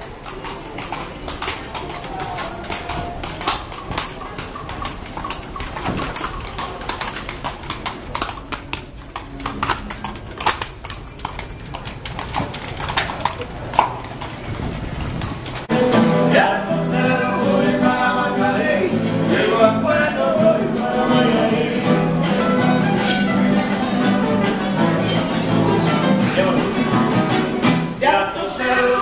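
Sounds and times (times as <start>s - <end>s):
wheels knocking on cobblestones: 0.0s - 28.5s
horse hooves clip-clopping: 0.0s - 28.6s.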